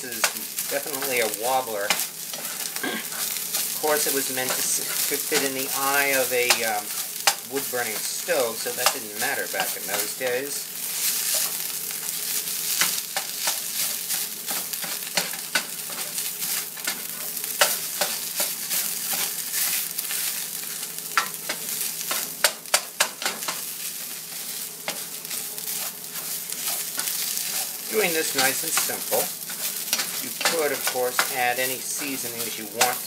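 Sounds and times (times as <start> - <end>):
fish sizzling in a skillet: 0.0 - 33.0.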